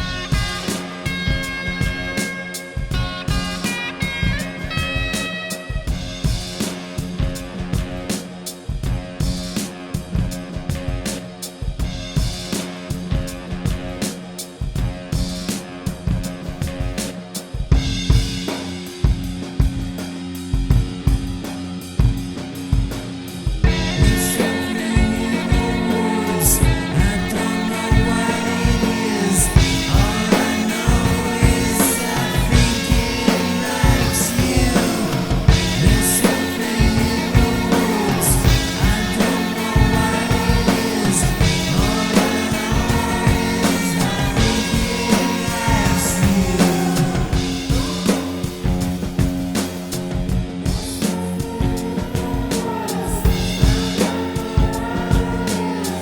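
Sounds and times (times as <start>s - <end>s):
music with drum beat: 0.0s - 56.0s.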